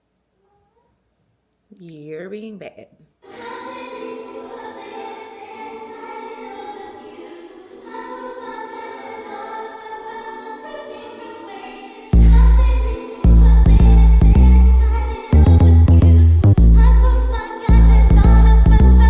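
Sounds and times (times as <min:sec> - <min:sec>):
choir singing held chords: 0:03.2 - 0:19.0.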